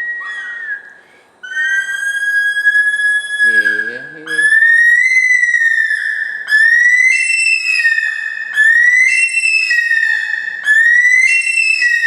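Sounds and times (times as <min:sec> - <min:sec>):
stone-curlew whistled call: 0:00.0 - 0:12.0.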